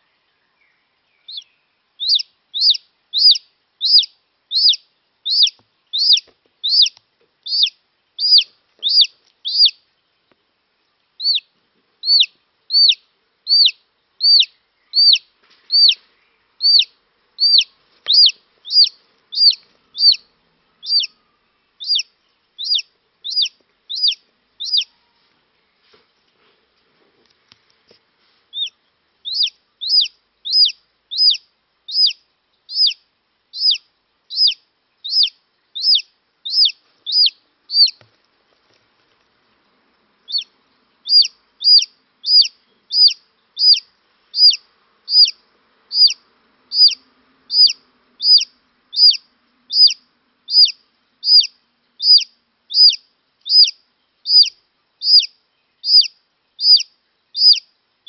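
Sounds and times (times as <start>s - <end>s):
chick peeping: 1.2s - 9.8s, 11.2s - 25.3s, 28.5s - 38.1s, 40.2s - 57.7s.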